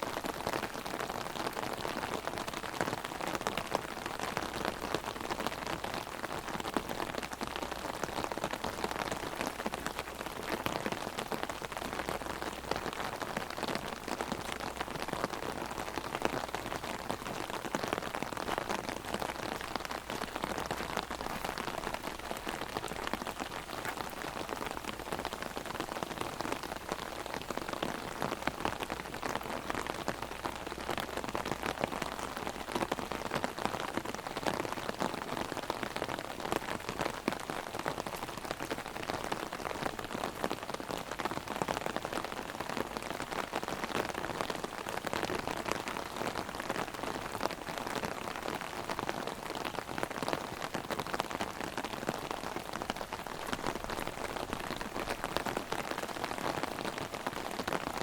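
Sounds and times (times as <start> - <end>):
heavy rain on an umbrella: 0.0 - 58.0.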